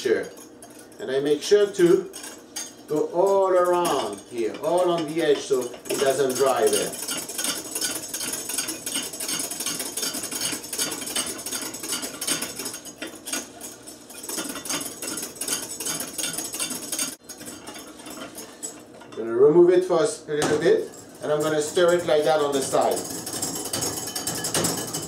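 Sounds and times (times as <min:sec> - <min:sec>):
wire whisk scraping glass bowl: 0:00.0 - 0:25.0.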